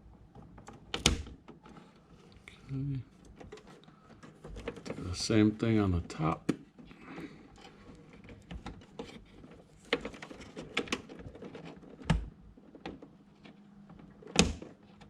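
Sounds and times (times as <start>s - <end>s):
plastic clicks and knocks: 0.2s - 1.8s, 3.2s - 5.0s, 6.3s - 15.0s.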